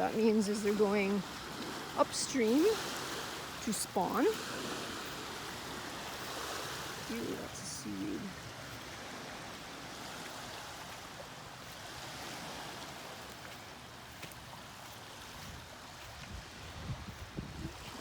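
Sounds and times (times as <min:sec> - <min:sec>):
small waves washing on shore: 0:00.0 - 0:18.0.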